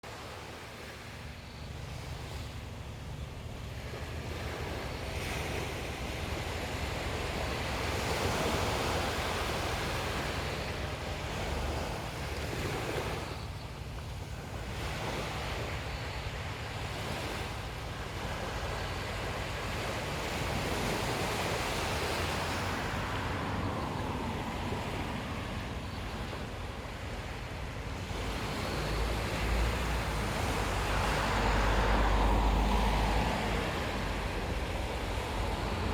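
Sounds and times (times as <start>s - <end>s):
ocean waves breaking on beach: 0.0s - 35.9s.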